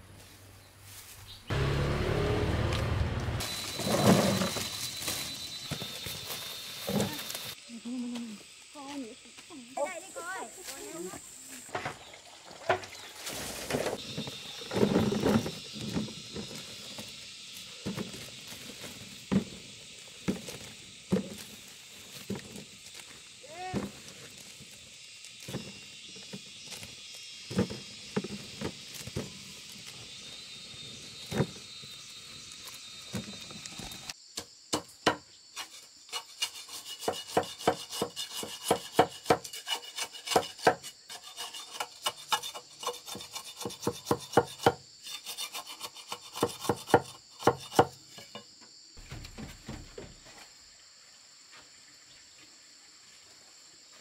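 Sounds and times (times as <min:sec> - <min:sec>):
insect drone: 0:00.6 - 0:54.0.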